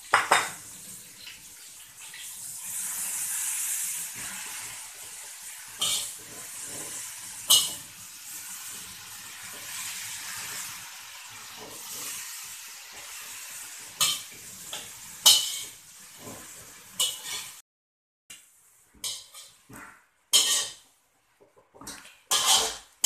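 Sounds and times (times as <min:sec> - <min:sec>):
leaves sizzling in hot oil: 0:00.0 - 0:17.6, 0:18.8 - 0:20.9, 0:22.3 - 0:23.0.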